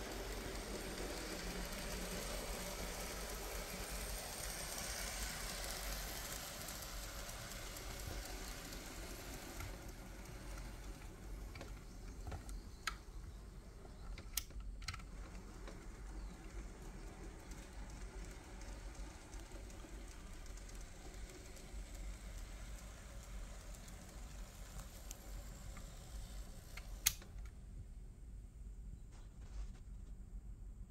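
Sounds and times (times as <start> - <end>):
model train motor whirring: 0.0 - 27.5.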